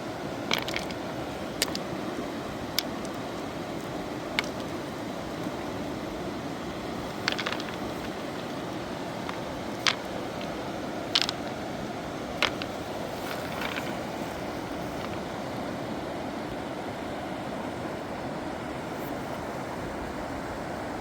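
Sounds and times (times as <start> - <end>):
fast river rushing: 0.0 - 21.0.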